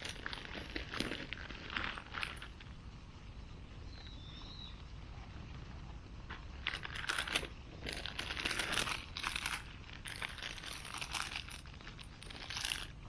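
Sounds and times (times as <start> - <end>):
crinkling and rustling: 0.0 - 2.8, 5.1 - 13.0.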